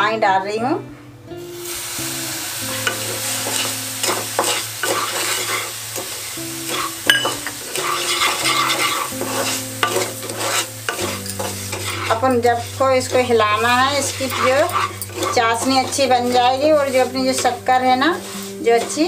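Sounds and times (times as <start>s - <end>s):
sugar sizzling in a pan: 1.4s - 19.0s
wooden spatula scraping pan: 2.8s - 19.0s.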